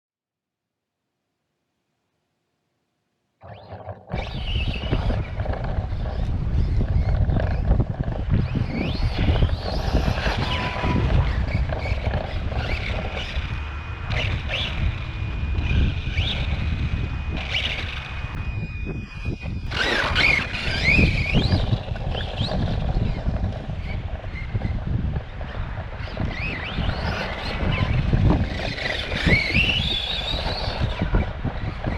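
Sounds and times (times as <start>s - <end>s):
rc truck motor whine: 3.4s - 31.9s
drivetrain and tyre rumble: 4.1s - 31.9s.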